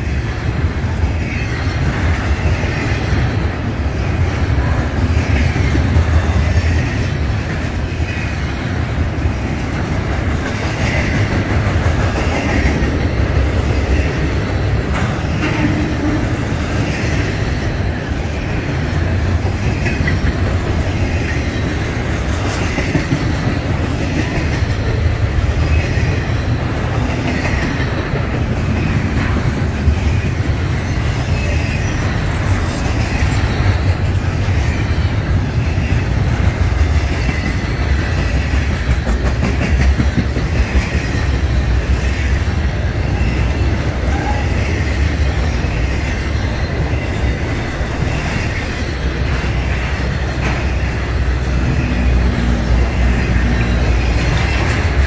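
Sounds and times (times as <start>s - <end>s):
freight train low rumble: 0.0s - 55.0s
train wheels clattering: 0.0s - 55.0s.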